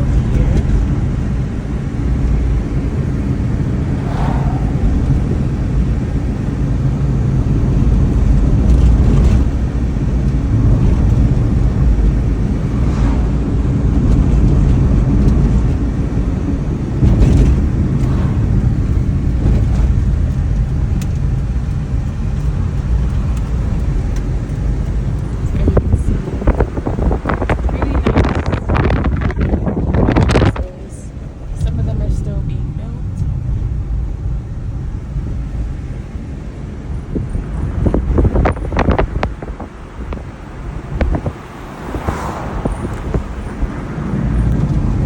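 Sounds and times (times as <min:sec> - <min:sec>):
car road noise rumble: 0:00.0 - 0:45.0.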